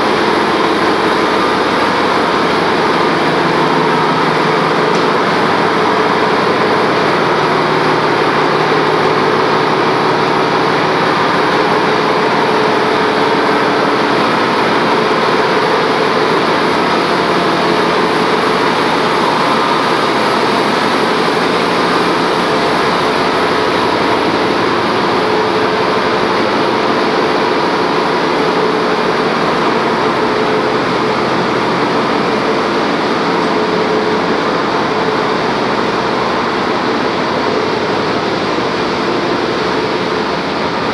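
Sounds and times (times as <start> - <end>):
engine room machinery din: 0.0 - 40.9.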